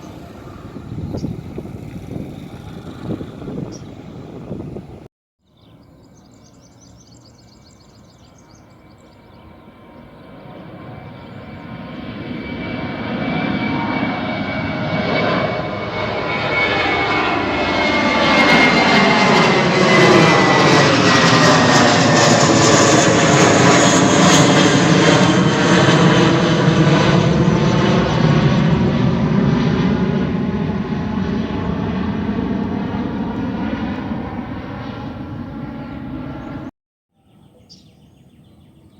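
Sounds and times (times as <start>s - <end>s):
airliner engine roar: 0.0s - 5.1s, 6.0s - 36.7s.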